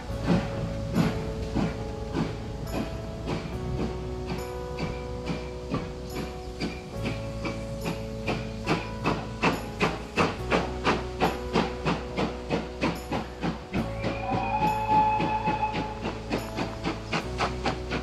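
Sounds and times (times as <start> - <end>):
steam hissing: 0.0 - 18.0
steam locomotive chuffing: 0.0 - 18.0.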